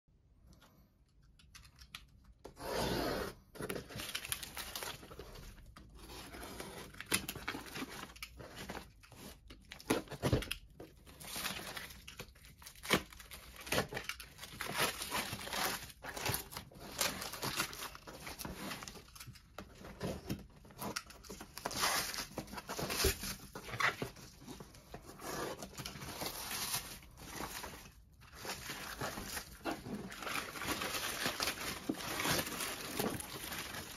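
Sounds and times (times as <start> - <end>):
plastic mailer ripping and rustling: 3.7 - 33.9.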